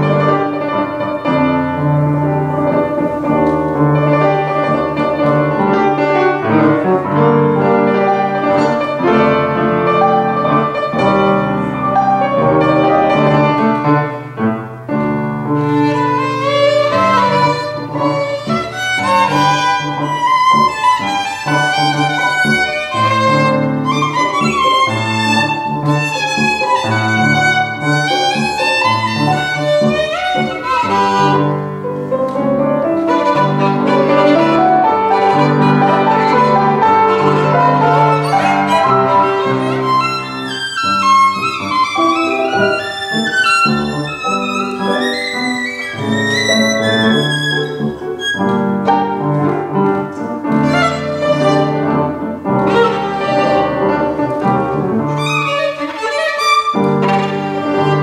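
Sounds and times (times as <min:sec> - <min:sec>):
piano: 0:00.0 - 0:58.0
violin: 0:00.0 - 0:58.0.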